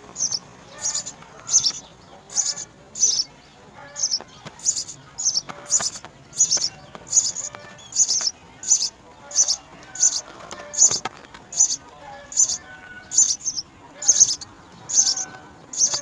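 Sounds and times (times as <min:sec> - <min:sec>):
sparrow chirping: 0:00.0 - 0:16.0.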